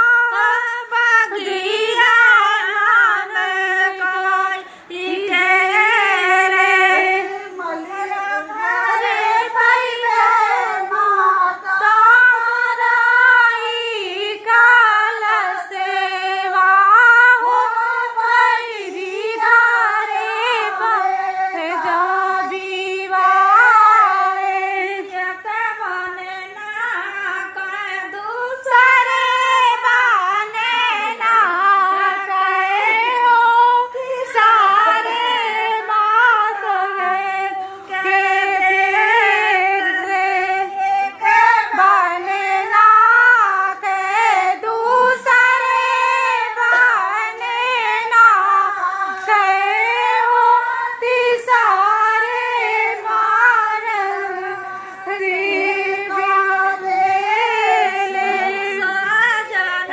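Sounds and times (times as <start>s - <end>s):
women singing folk song together: 0.0s - 59.9s.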